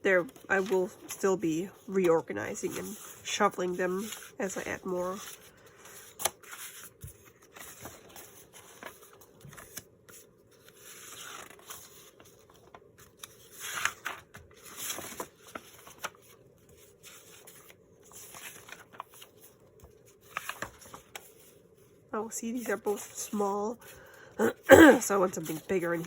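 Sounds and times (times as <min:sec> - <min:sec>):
paper pages rustling: 0:00.2 - 0:22.0, 0:25.2 - 0:26.0.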